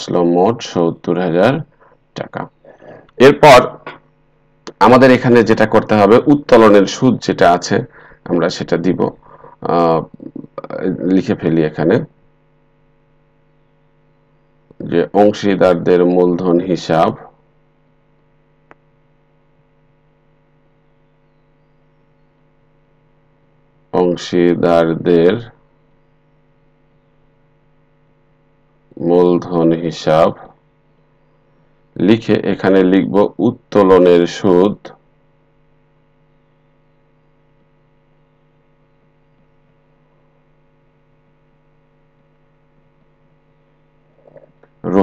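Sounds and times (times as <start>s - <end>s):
electrical mains hum: 0.0s - 45.0s
faint recording hiss: 0.0s - 45.0s.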